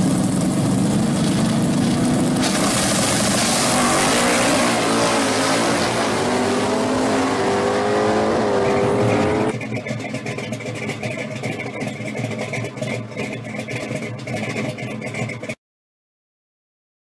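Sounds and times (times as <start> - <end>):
car engine at full throttle: 0.0 - 15.6.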